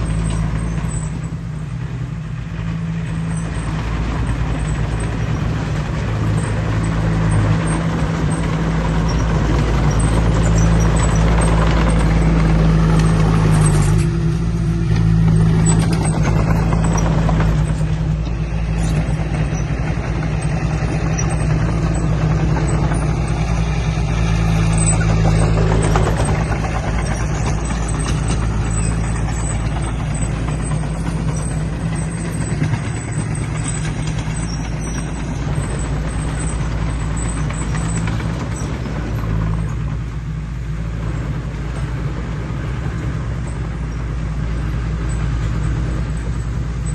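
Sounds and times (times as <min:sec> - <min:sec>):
heavy diesel engine running: 0:00.0 - 0:46.9.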